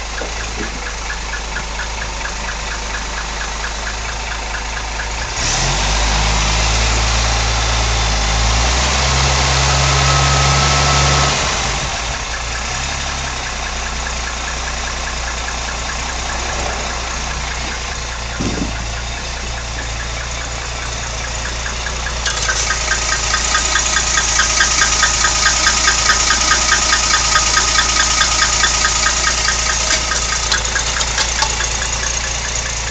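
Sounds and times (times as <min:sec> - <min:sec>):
car engine running: 0:00.0 - 0:32.9
engine knock: 0:00.0 - 0:32.9
fast even engine ticking: 0:00.0 - 0:32.9.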